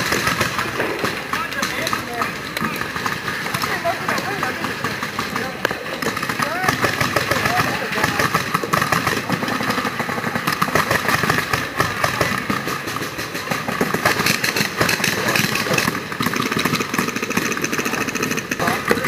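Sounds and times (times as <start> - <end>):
paintball markers firing: 0.0 - 19.0.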